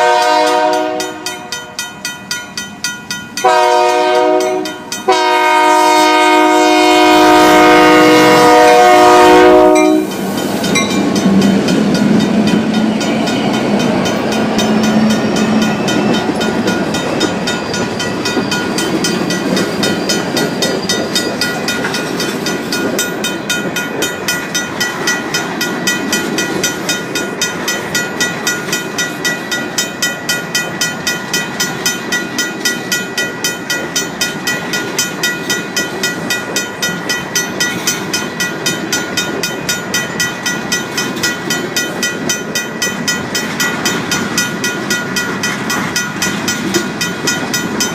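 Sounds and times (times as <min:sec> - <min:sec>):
freight train rumbling on rails: 0:00.0 - 0:47.9
railroad crossing bell ringing: 0:00.0 - 0:47.9.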